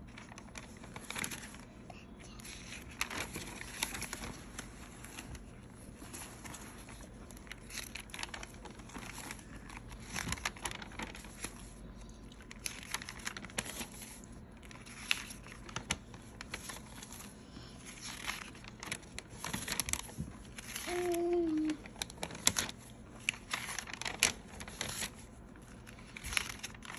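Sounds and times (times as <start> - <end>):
notebook pages rustling: 0.0 - 26.9.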